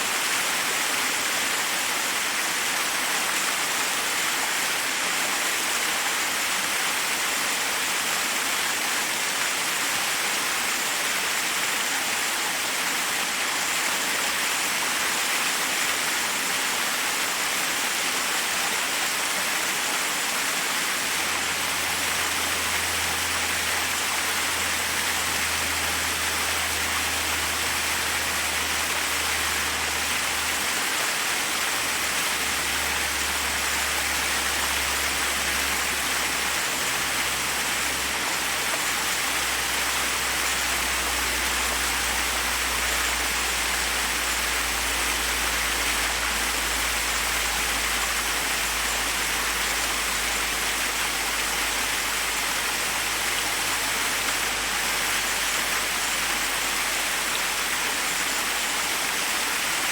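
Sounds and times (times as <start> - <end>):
water cascading over rocks: 0.0 - 59.9.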